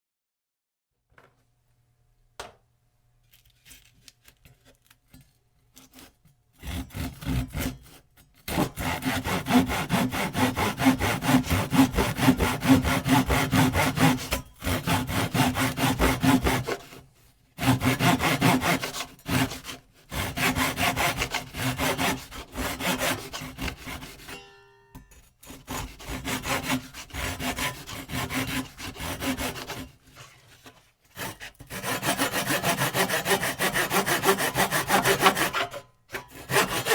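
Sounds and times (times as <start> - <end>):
hand saw cutting: 5.8 - 24.4, 25.4 - 36.9.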